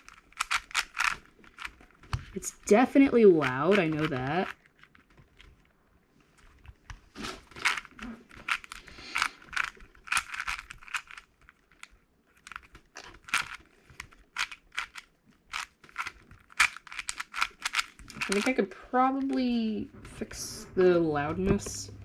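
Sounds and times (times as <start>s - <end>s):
speed cube clacking: 0.0s - 5.7s, 6.4s - 19.3s.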